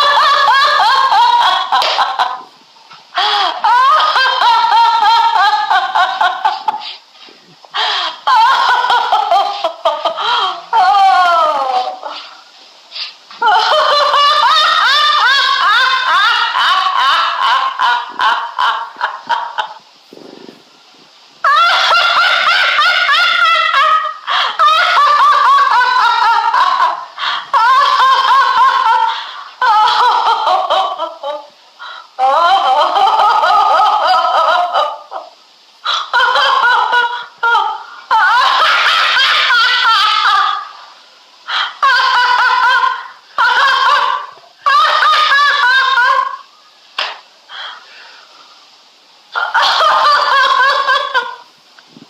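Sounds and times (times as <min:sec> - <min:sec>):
woman laughing hard: 0:00.0 - 0:02.5, 0:03.2 - 0:12.3, 0:13.3 - 0:20.0, 0:21.4 - 0:40.8, 0:41.5 - 0:47.7, 0:49.3 - 0:51.5.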